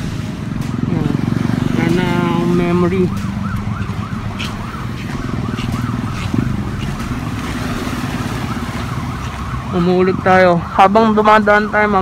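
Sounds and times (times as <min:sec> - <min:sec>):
low traffic rumble: 0:00.0 - 0:12.0
siren yelping: 0:00.3 - 0:12.0.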